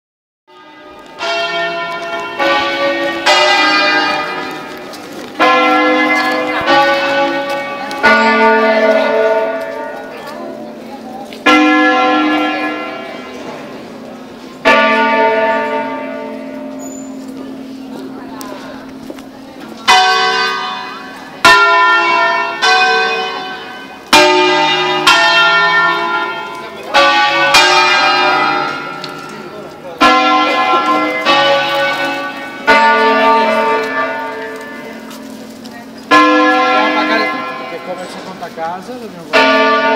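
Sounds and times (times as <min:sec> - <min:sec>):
church bells chiming: 0:00.5 - 0:39.9.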